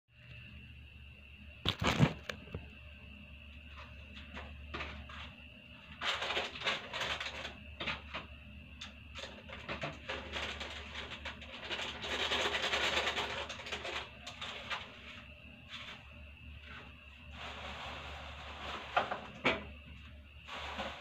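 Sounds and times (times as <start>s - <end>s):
faint high whine: 0.1s - 21.0s.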